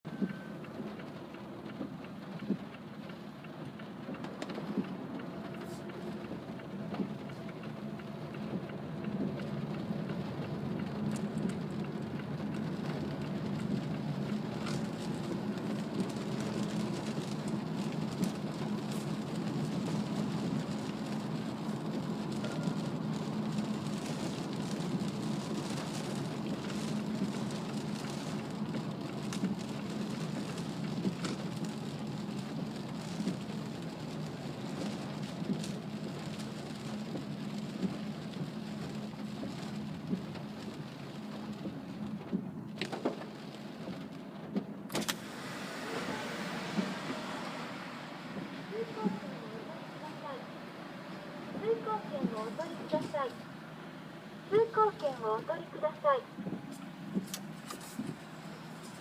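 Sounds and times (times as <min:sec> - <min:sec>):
sharp taps of raindrops: 0:00.1 - 0:45.3, 0:46.7 - 0:50.2, 0:51.4 - 0:53.4, 0:56.3 - 0:59.0
heavy rain drumming on a car: 0:00.1 - 0:59.0
tyres hissing on wet road: 0:04.5 - 0:42.2, 0:42.8 - 0:59.0.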